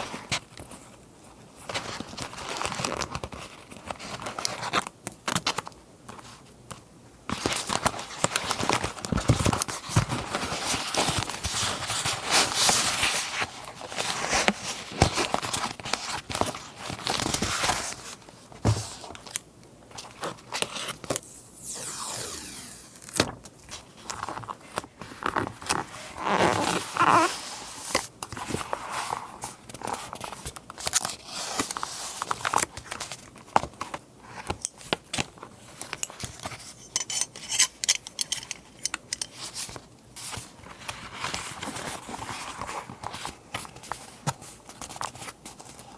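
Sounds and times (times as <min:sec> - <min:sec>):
paper rustling and crinkling: 0:00.0 - 0:06.4, 0:07.3 - 0:21.3, 0:23.1 - 0:36.8, 0:39.4 - 0:45.9.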